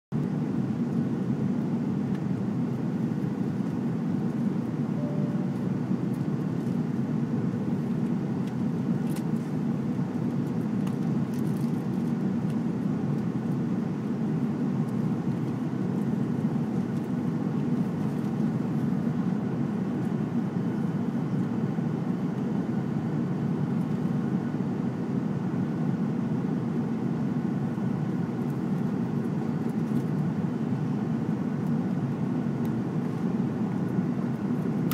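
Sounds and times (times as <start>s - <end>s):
airliner cabin engine roar: 0.1s - 34.9s.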